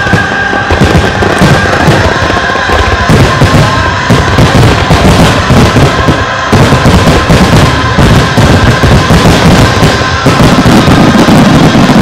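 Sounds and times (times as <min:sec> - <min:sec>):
firework bursts booming: 0:00.0 - 0:12.0.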